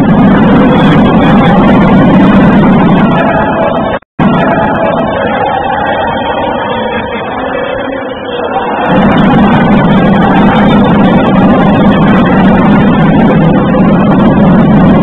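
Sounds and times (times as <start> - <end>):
arena crowd cheering: 0.0 - 15.0.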